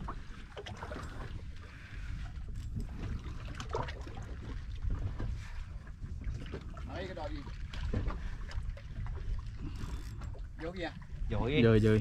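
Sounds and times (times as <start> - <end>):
knocks and clicks from boat: 0.0 - 12.0.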